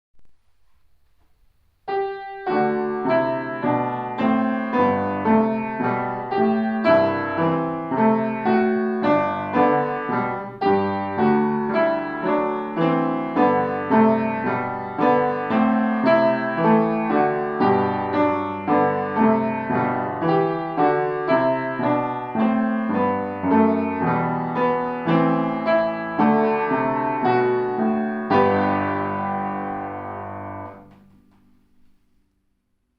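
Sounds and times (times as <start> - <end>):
piano piece: 0.6 - 32.2.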